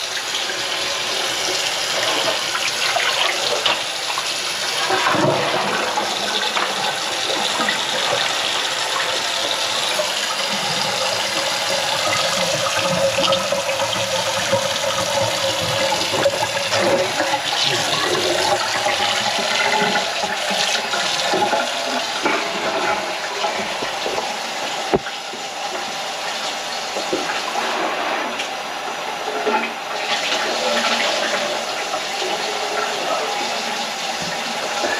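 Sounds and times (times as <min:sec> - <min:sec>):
water draining from sink: 0:00.0 - 0:34.9.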